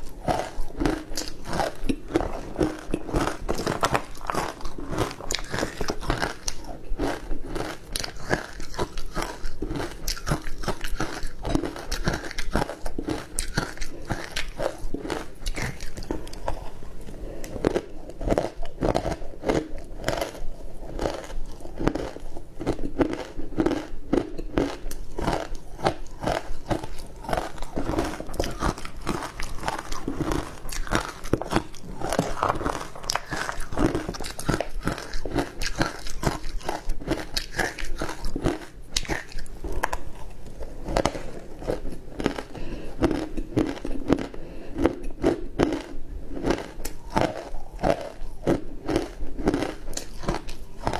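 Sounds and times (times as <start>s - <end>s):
ice crunching being chewed: 0.0s - 50.9s.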